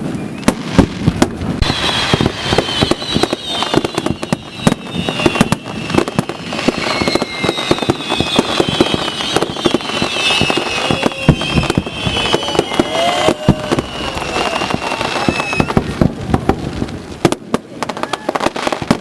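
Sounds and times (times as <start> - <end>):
falling firework whistles: 0.0 - 16.4
fireworks bangs and crackles: 0.0 - 19.0.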